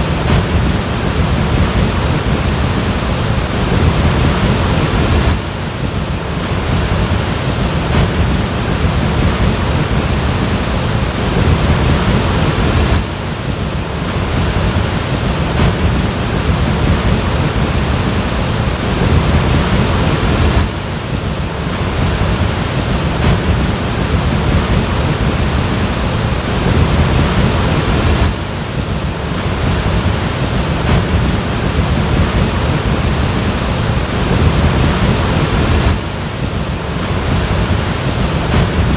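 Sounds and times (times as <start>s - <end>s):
floodwater rushing: 0.0s - 38.9s
wind noise on microphone: 0.0s - 38.9s.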